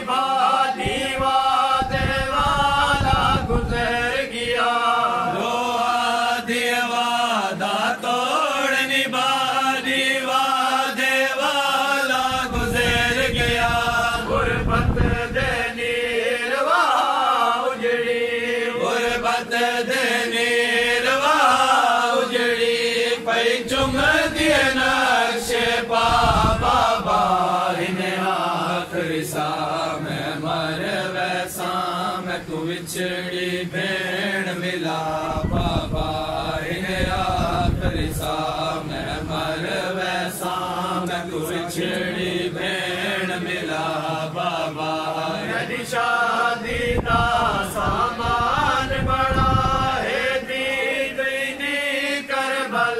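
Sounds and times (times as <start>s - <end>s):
man chanting a lament: 0.0s - 52.9s.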